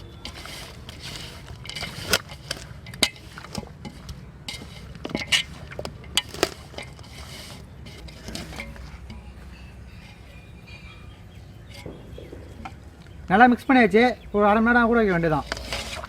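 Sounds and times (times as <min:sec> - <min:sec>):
chicken mixed in marinade: 0:00.0 - 0:16.0.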